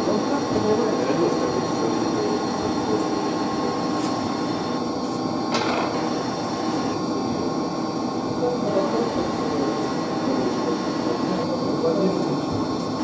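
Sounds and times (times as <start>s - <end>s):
pump machinery hum and hiss: 0.0s - 13.0s.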